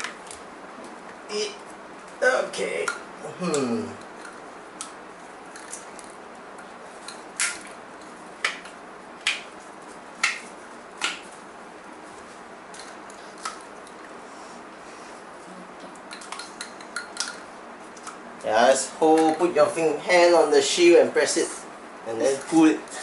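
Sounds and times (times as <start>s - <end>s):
steady low hiss: 0.0s - 23.0s.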